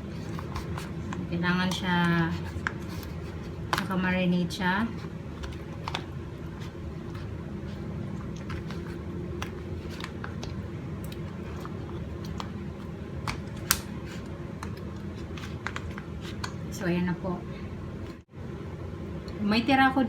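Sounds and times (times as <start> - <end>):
low appliance hum: 0.0 - 20.0.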